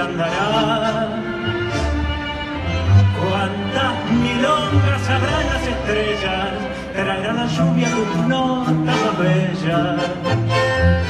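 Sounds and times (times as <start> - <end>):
bowed strings melody: 0.0 - 11.0
sustained double bass notes: 0.0 - 11.0.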